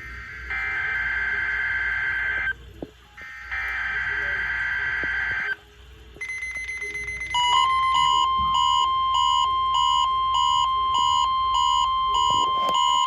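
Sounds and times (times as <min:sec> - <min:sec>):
steady warning alarm tone: 0:00.0 - 0:02.6, 0:03.2 - 0:05.6, 0:06.2 - 0:13.0.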